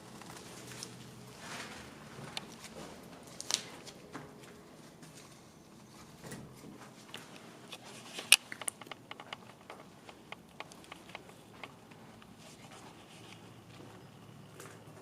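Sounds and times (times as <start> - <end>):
light clicks and crackles: 0.1 - 5.4, 6.2 - 15.0.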